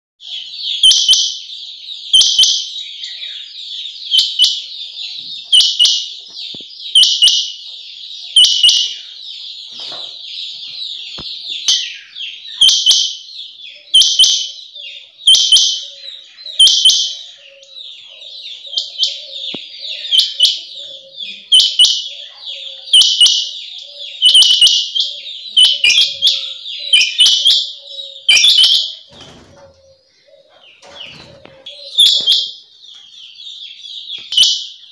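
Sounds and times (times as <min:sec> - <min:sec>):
high-pitched bird chatter: 0:00.2 - 0:34.9.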